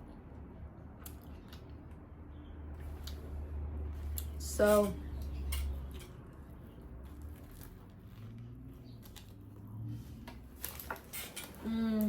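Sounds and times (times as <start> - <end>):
low steady hum: 0.0 - 12.0
soft eating and mouth sounds: 0.0 - 12.0.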